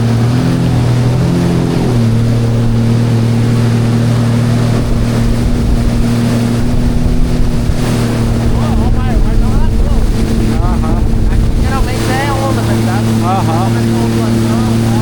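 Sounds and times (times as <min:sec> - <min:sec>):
jet ski engine running: 0:00.0 - 0:15.0
water noise: 0:00.0 - 0:15.0
wind on microphone: 0:00.0 - 0:15.0.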